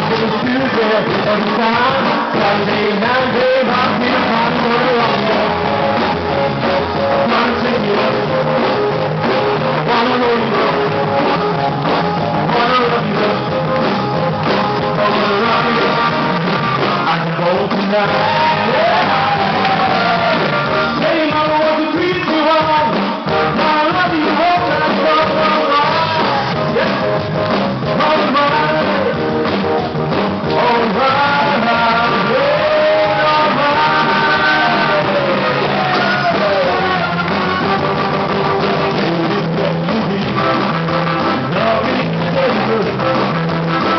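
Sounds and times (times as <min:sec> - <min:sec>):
band playing: 0:00.0 - 0:43.9
person singing lead vocals: 0:00.0 - 0:43.9.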